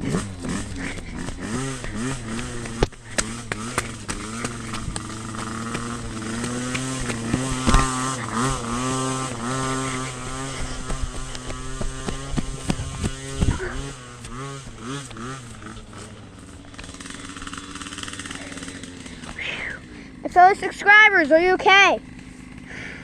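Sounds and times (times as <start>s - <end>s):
knocks from rough ground: 0.0s - 19.4s
two-stroke dirt bike revving: 0.0s - 23.0s.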